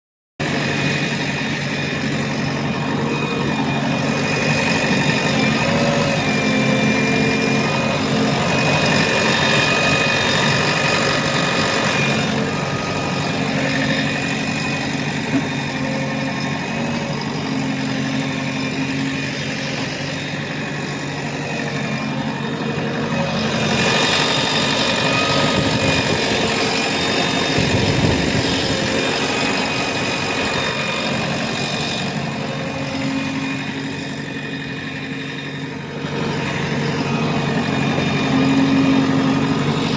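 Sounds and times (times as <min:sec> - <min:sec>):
diesel engine running: 0:00.4 - 0:39.9.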